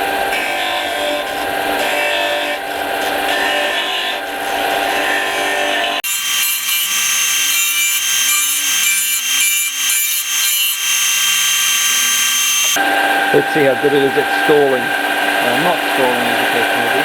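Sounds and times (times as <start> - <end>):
sander grinding wood: 0.0 - 17.0.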